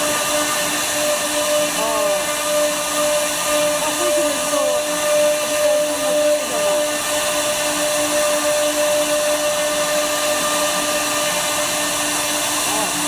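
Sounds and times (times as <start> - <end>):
cnc router running: 0.0 - 13.0.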